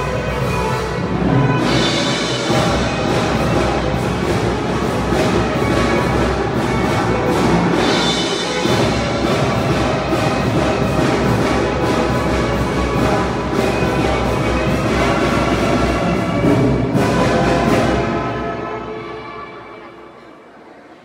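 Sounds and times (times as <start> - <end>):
brass instruments playing: 0.0 - 20.2.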